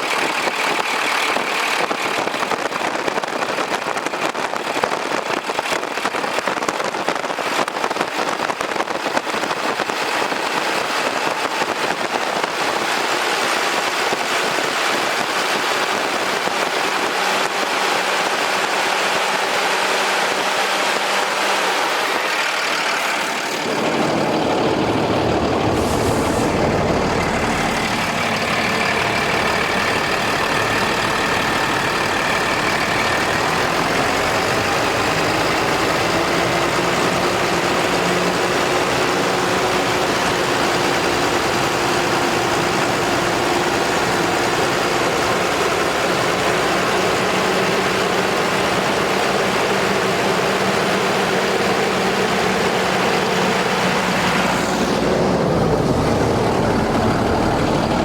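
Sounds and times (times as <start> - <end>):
diesel truck idling: 0.0 - 4.0, 9.3 - 58.0.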